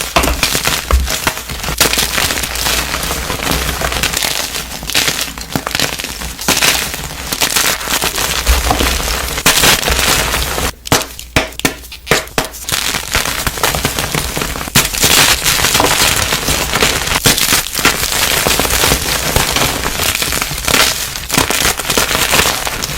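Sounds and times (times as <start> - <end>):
chalk crunching and crackling: 0.0 - 22.9.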